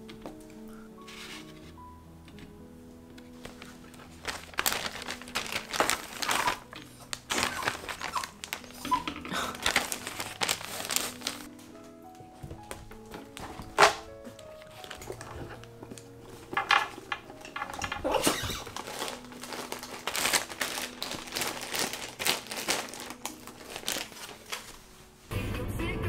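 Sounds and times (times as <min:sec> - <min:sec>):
plastic bag crinkling: 0:03.2 - 0:12.0, 0:12.6 - 0:25.2.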